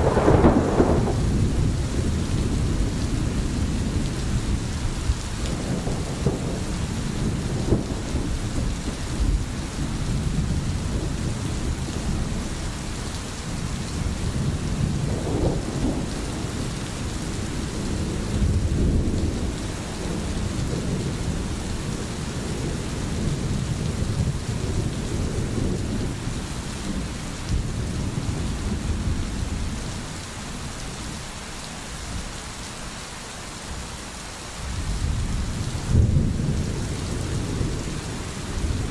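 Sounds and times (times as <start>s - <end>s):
rumble of thunder: 0.0s - 30.0s, 34.7s - 38.9s
rain hissing: 0.0s - 38.9s.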